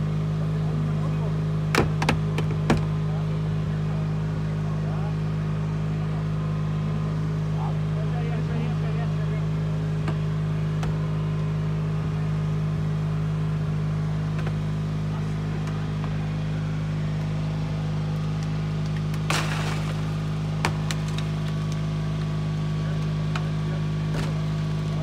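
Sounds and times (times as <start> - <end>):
power unit engine drone: 0.0 - 25.0.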